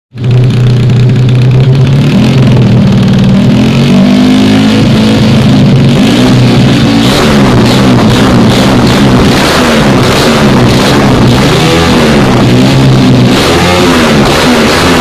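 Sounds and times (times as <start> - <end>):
motorcycle engine revving: 0.1 - 15.0.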